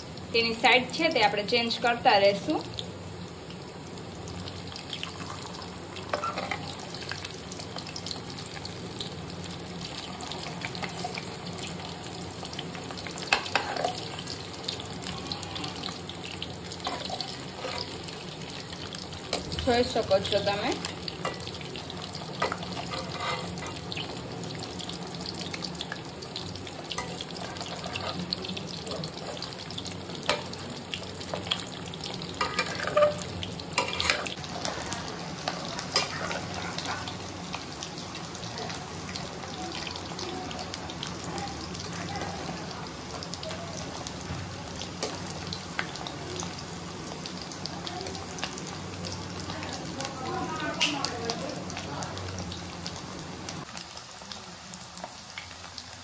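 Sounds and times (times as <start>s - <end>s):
potatoes sizzling in hot oil: 0.0s - 56.0s.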